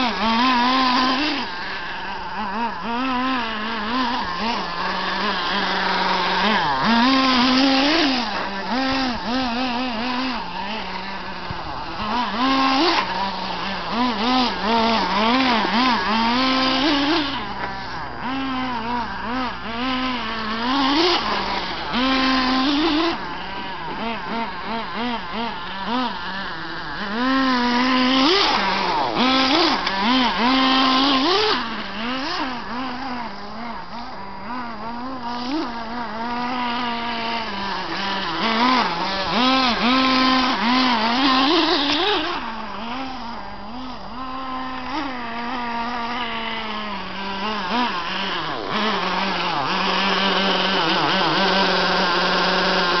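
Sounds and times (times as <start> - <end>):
small nitro engine revving: 0.0 - 53.0.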